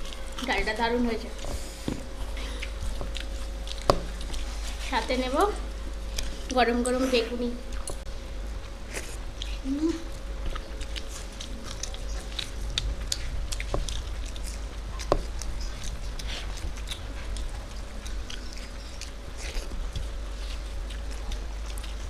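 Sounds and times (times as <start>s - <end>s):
chewing crisp fried food: 0.0s - 22.0s.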